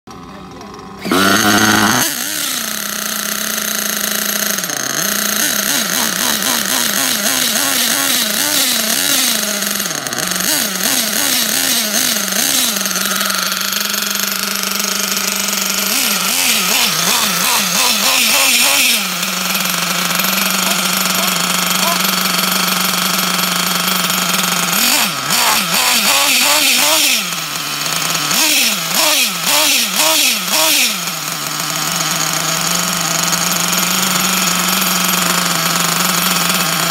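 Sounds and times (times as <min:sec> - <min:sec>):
model engine revving and idling: 0:00.1 - 0:36.9.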